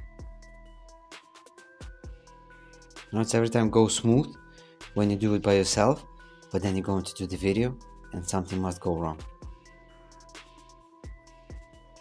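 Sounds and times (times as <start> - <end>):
background music of held tones: 0.0 - 12.0.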